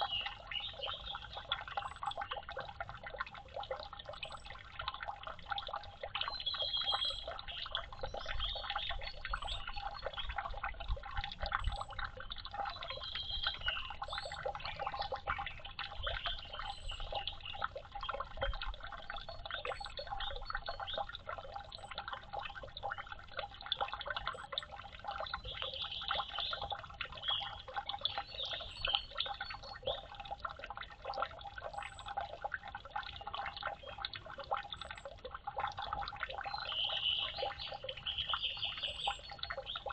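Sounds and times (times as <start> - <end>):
water drops pattering and trickling: 0.0 - 39.9.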